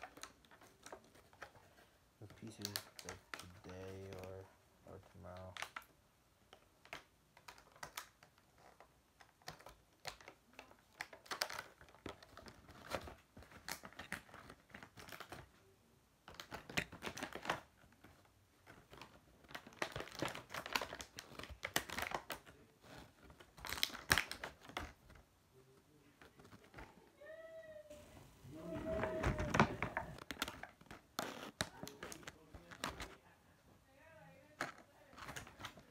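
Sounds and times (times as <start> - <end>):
small plastic clicks and rustling: 0.0 - 15.6, 16.2 - 27.1, 28.8 - 33.2, 34.2 - 35.9.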